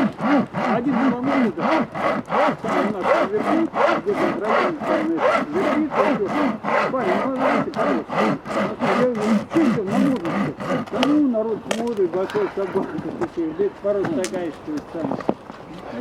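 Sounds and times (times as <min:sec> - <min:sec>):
hand saw cutting wood: 0:00.0 - 0:14.9.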